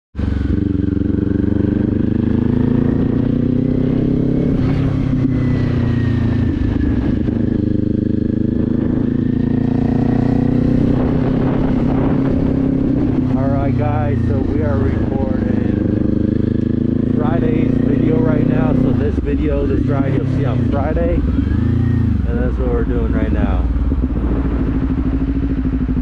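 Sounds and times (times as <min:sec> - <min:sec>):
motorcycle engine running steadily: 0:00.2 - 0:26.0.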